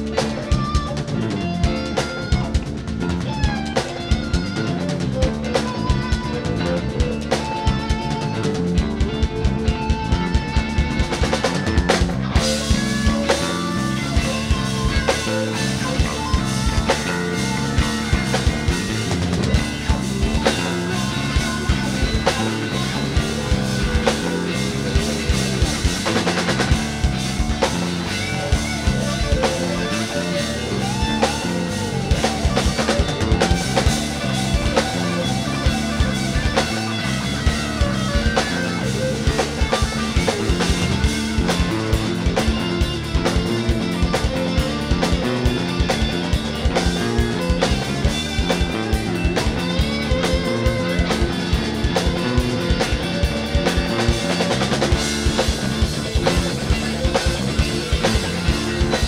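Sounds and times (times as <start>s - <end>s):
bass guitar: 0.0s - 59.0s
drum kit: 0.0s - 59.0s
lead guitar: 0.0s - 59.0s.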